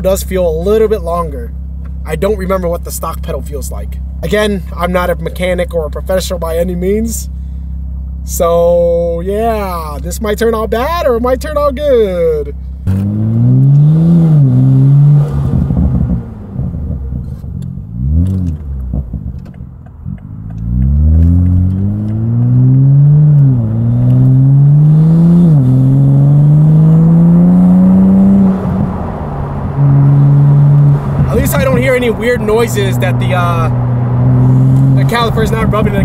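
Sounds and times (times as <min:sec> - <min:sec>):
car engine accelerating: 0:06.4 - 0:36.0.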